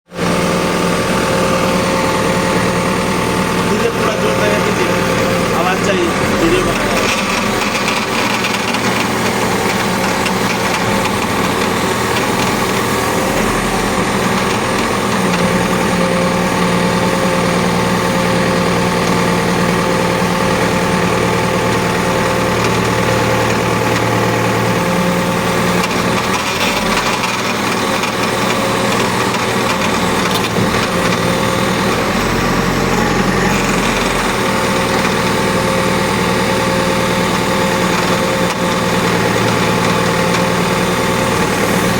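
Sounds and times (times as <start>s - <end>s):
engine running: 0.0s - 41.9s
hydraulic pump whine: 0.1s - 41.9s.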